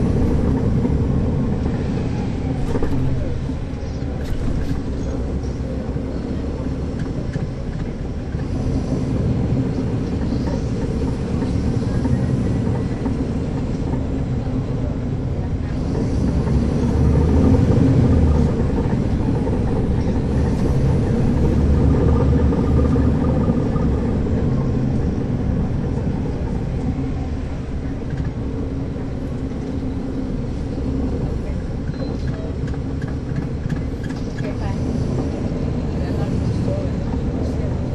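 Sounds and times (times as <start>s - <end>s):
bus diesel engine running: 0.0s - 37.9s.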